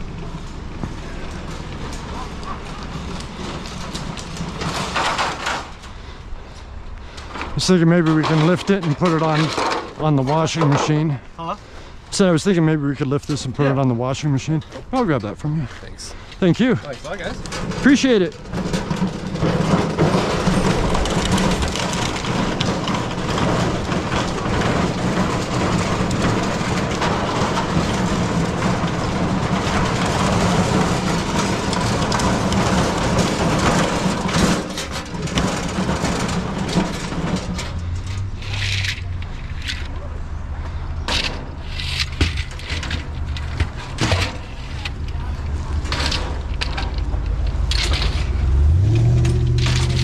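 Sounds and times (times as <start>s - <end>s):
vehicle engine running: 0.0s - 5.0s, 14.8s - 50.0s.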